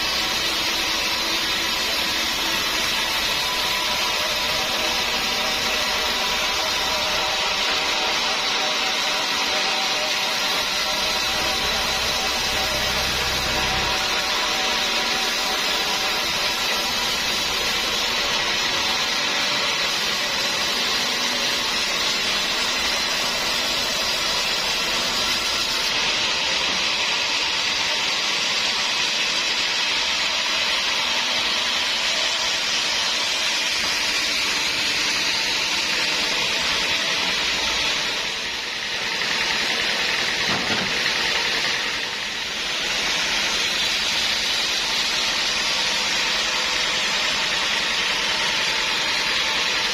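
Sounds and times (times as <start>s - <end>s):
sawmill saw cutting wood: 0.0s - 49.9s.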